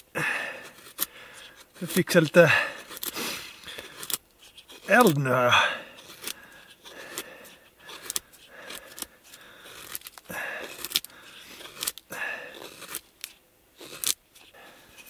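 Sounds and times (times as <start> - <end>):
knife scraping wood: 0.3 - 15.0.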